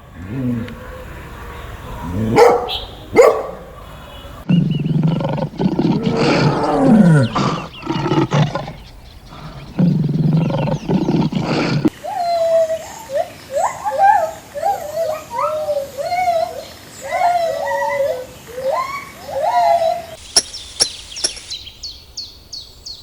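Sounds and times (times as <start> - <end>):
animal calls: 0.0 - 21.5.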